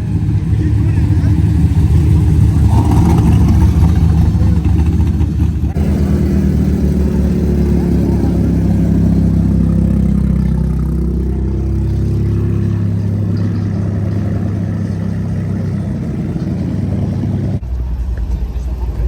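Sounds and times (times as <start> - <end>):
car engines rumbling: 0.0 - 19.0.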